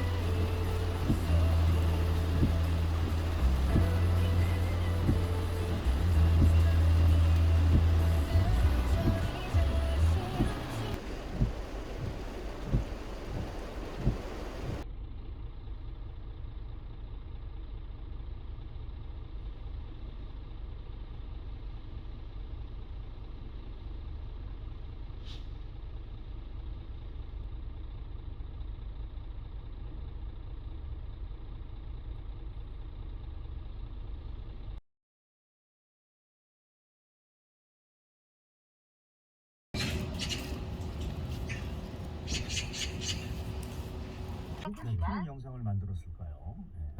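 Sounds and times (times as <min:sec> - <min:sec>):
vehicle interior rumble: 0:00.0 - 0:34.8, 0:39.8 - 0:46.9.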